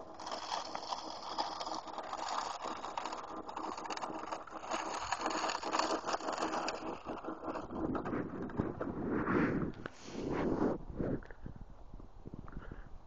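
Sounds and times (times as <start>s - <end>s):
electric motor hum: 0.0s - 10.7s
snow crackling and scraping: 0.0s - 11.2s.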